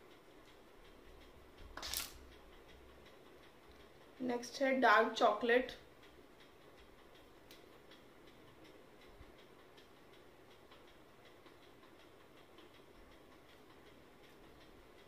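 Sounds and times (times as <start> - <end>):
faint even ticking: 0.0 - 15.0.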